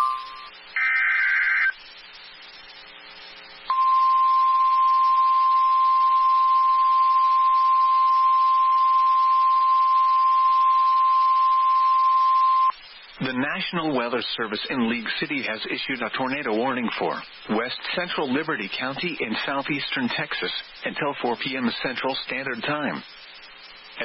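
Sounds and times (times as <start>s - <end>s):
faint hiss: 0.0s - 10.6s, 12.7s - 24.0s.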